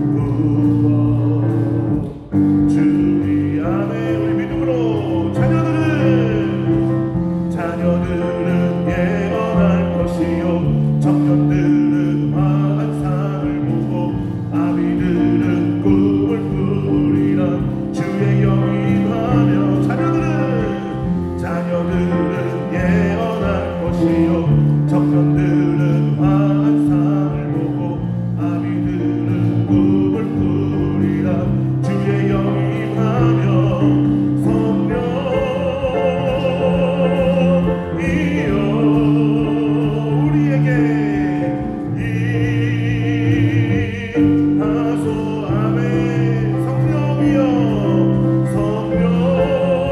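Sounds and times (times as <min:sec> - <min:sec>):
worship band playing: 0:00.0 - 0:49.9.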